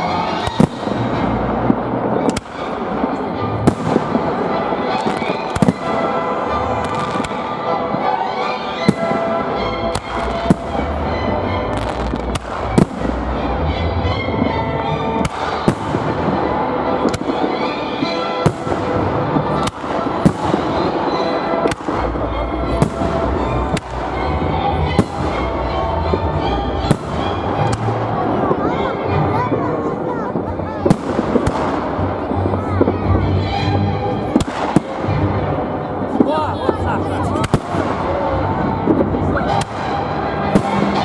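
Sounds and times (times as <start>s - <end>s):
continuous din: 0.0s - 41.0s
fireworks booming: 0.0s - 41.0s
music: 0.0s - 41.0s.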